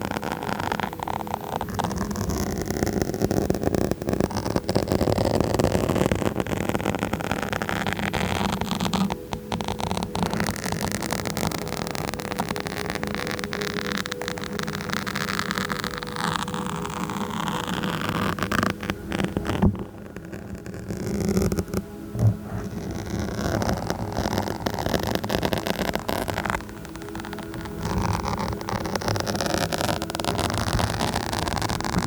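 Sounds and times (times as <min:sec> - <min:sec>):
fingers scratching on microphone: 0:00.0 - 0:32.0.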